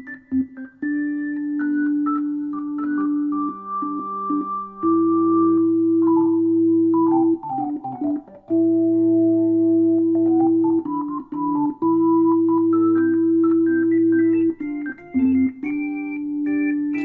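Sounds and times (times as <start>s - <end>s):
organ chords and melody: 0.0s - 17.0s.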